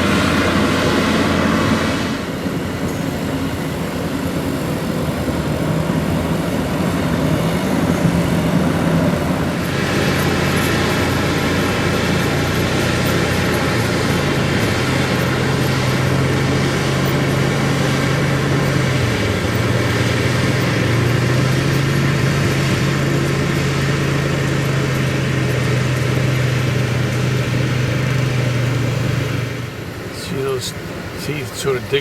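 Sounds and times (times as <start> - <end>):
skid steer engine running: 0.0 - 32.0.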